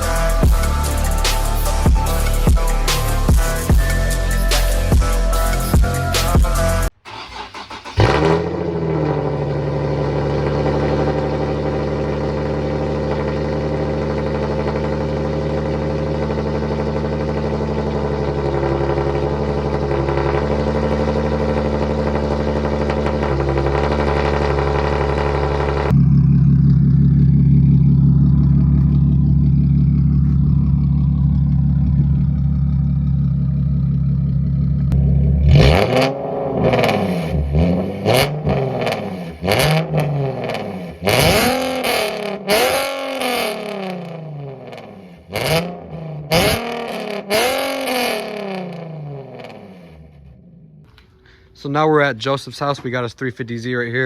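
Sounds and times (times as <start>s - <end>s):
car engine idling and revving: 0.0s - 51.2s.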